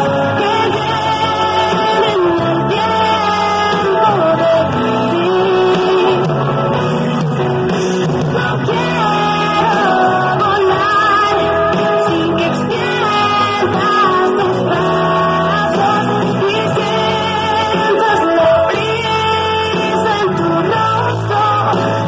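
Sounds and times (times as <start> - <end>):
song with lead vocal: 0.0 - 22.0.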